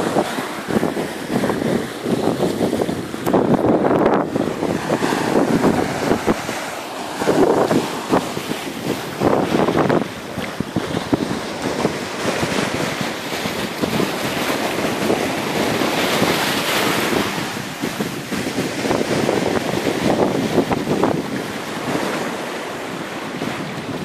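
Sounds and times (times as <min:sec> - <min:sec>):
small waves breaking over rocks: 0:00.0 - 0:24.0
wind buffeting microphone: 0:00.0 - 0:24.0.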